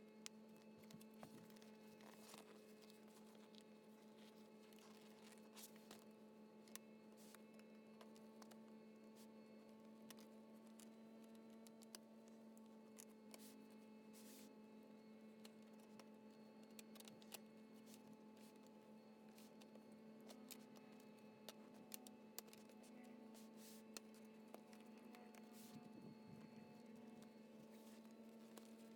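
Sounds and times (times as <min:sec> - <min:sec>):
faint electrical hum: 0:00.0 - 0:28.9.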